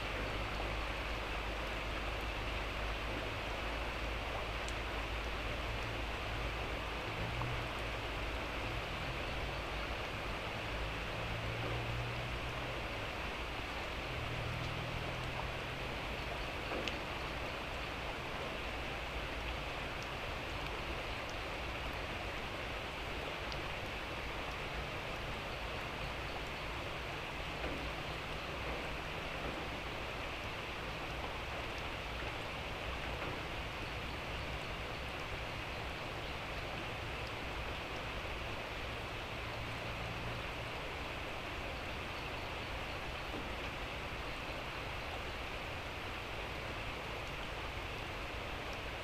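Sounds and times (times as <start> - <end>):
faint drip ticks: 0.0 - 49.0
light rain falling: 0.0 - 49.0.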